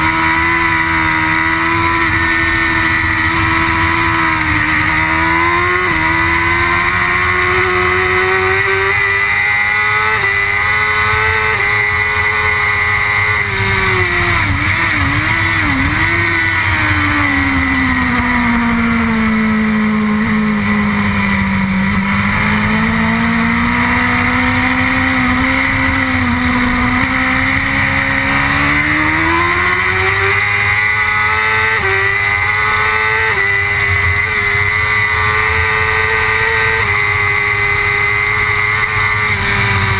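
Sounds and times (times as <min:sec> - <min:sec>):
gear changes: 0:00.0 - 0:39.9
motorcycle engine at racing revs: 0:00.0 - 0:39.9.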